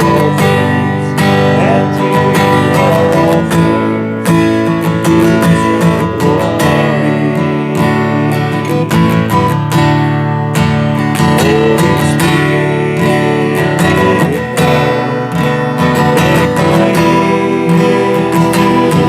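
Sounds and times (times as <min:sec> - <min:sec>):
instrumental worship music: 0:00.0 - 0:19.0
strummed acoustic guitar: 0:00.0 - 0:19.0.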